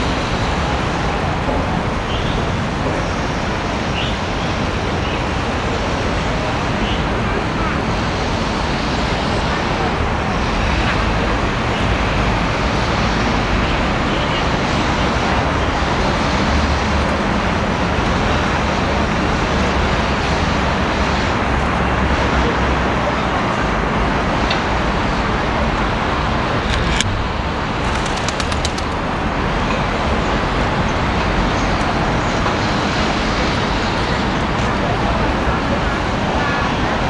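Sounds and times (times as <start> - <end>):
city traffic: 0.0 - 37.0.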